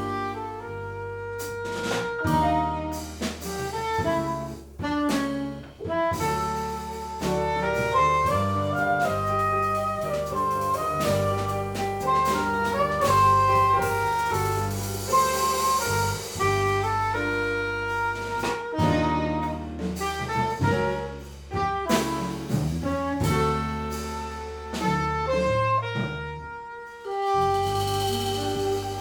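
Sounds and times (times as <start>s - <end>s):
bass: 0.0s - 29.0s
drum kit and cymbals: 0.0s - 29.0s
piano: 0.0s - 29.0s
saxophone: 0.0s - 29.0s.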